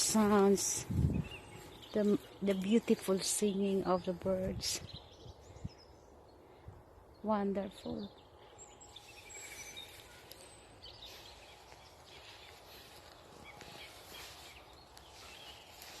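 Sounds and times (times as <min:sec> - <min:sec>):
outdoor background noise: 0:00.0 - 0:16.0
songbirds chirping: 0:00.0 - 0:16.0.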